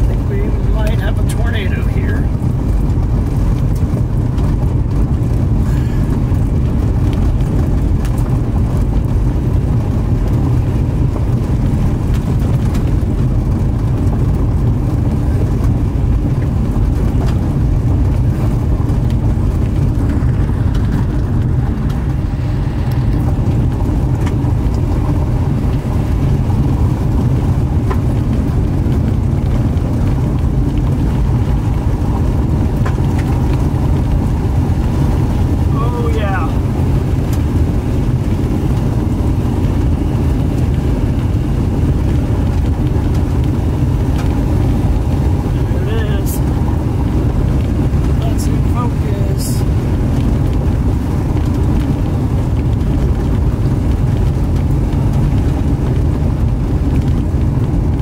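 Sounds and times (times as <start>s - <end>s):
car driving rumble: 0.0s - 58.0s.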